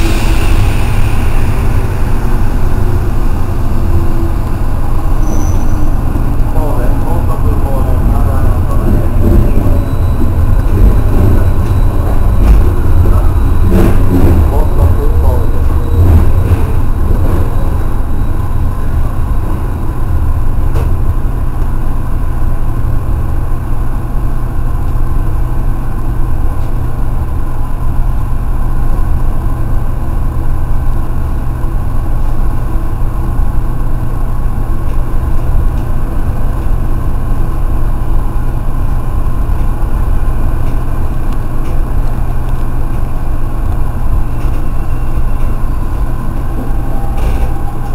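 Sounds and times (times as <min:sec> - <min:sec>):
electric train rumble: 0:00.0 - 0:47.9.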